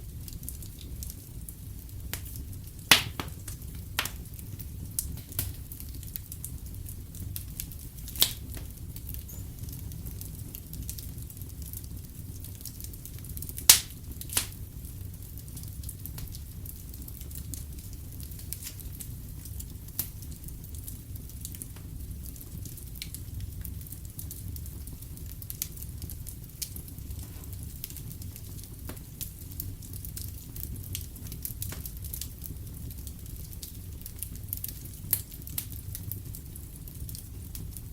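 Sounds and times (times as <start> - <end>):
wood fire crackling: 0.0 - 37.9
fire pops: 0.1 - 37.9.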